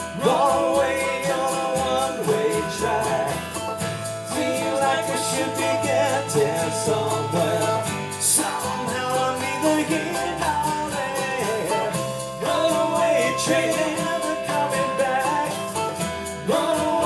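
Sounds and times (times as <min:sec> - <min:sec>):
acoustic guitar strumming: 0:00.0 - 0:17.0
mandolin picking: 0:00.0 - 0:17.0.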